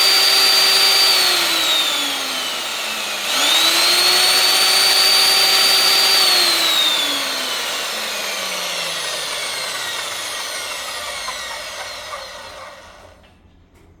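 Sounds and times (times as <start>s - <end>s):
core drill motor whining down: 0.0s - 13.4s.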